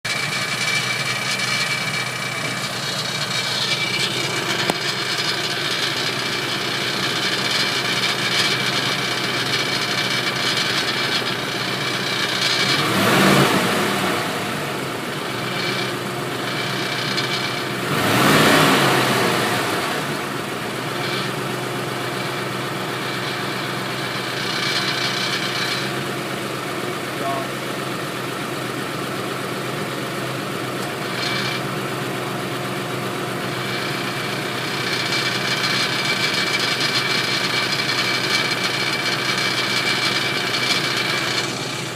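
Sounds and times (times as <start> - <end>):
car engine idling: 0.0 - 41.9
engine bay rattle: 0.1 - 12.7, 20.4 - 41.9.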